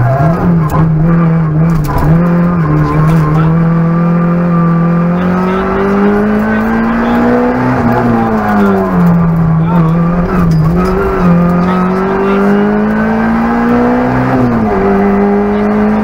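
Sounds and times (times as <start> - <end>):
car engine revving hard: 0.0 - 16.0
gearshift: 0.0 - 16.0.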